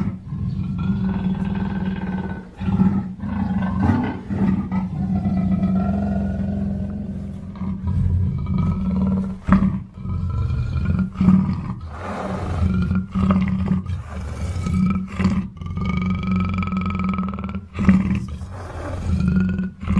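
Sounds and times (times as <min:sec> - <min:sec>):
leopard growling low: 0:00.0 - 0:19.9.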